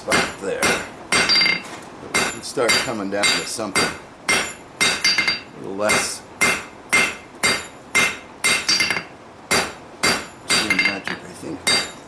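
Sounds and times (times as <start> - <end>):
hammer striking steel on anvil: 0.1 - 12.0.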